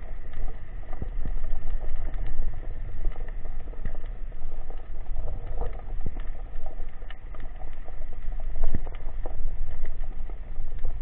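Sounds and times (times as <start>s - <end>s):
clicks and crackles: 0.0s - 11.0s
underwater rumble: 0.0s - 11.0s.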